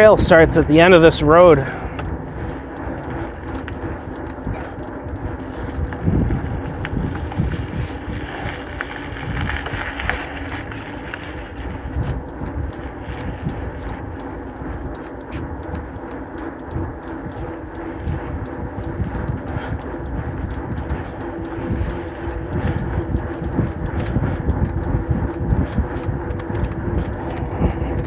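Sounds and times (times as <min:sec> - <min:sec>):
bicycle clicks and rattles: 0:00.0 - 0:28.0
bicycle rolling on road: 0:00.0 - 0:28.0.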